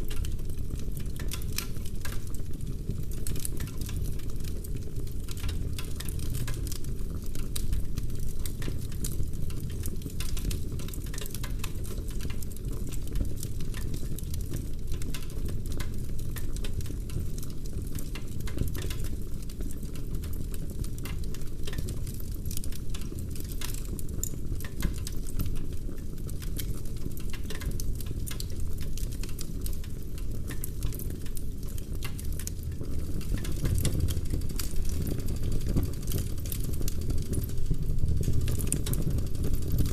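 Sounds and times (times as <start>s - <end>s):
crackles and pops of burning wood: 0.0s - 39.9s
low rumble of flames: 0.0s - 39.9s.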